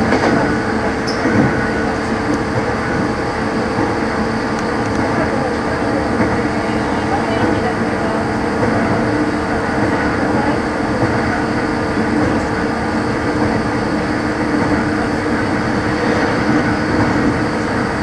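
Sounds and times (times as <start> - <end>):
wheel on rail noise: 0.0 - 18.0.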